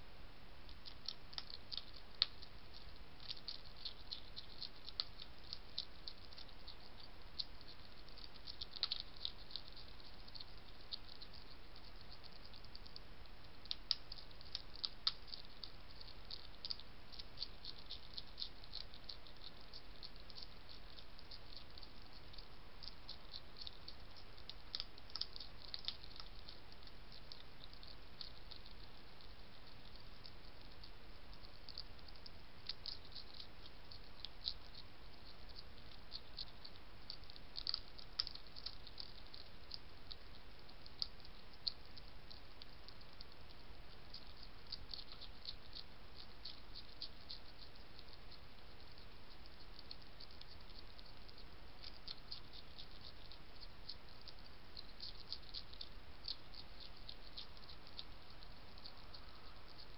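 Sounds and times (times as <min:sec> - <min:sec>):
faint steady hiss: 0:00.0 - 0:59.9
hedgehog crunching food: 0:00.5 - 0:59.9.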